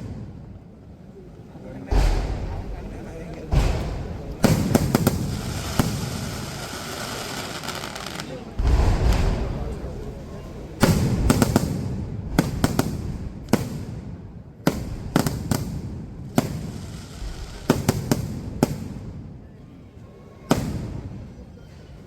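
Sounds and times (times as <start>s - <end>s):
fireworks bangs with rumbling echo: 0.0s - 19.5s, 20.5s - 21.5s.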